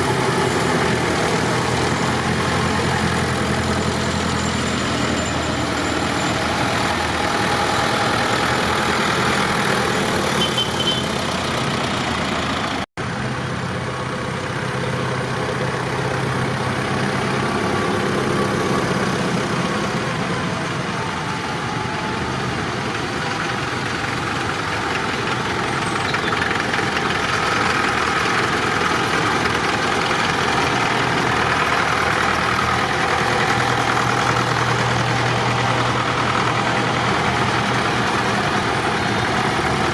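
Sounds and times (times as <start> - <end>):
tractor engines idling: 0.0 - 39.9.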